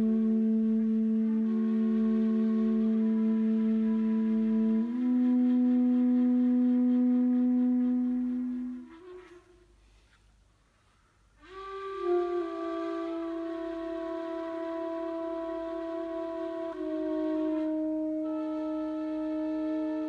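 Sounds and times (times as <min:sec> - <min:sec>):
soprano saxophone long notes: 0:00.0 - 0:09.9, 0:11.4 - 0:20.0
kaval long notes: 0:00.0 - 0:10.0, 0:11.4 - 0:20.0.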